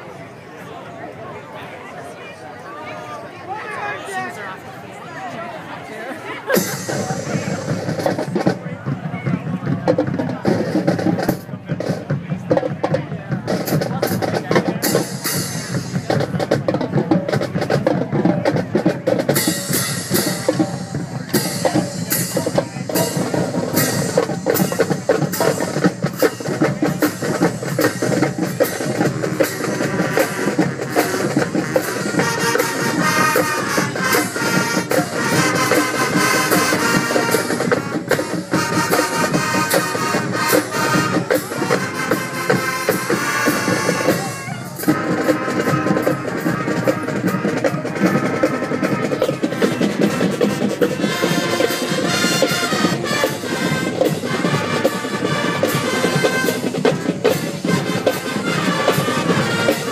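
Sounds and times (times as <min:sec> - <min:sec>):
marching band brass: 0:06.5 - 0:59.9
marching drum strikes: 0:06.5 - 0:59.9.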